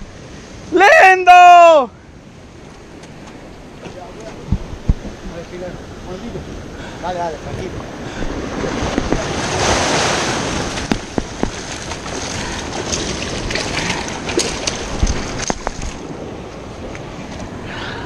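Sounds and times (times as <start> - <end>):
surf washing over rocks: 0.0 - 18.0.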